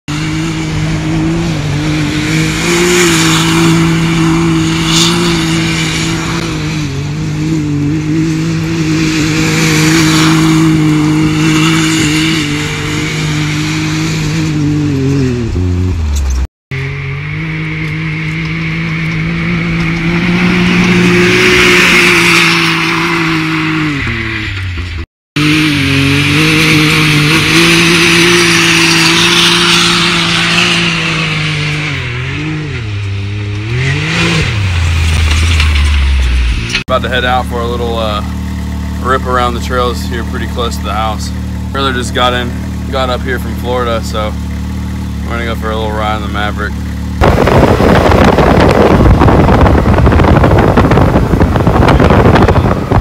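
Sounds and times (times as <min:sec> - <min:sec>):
engine revving high: 0:00.1 - 0:24.8, 0:25.4 - 0:53.0.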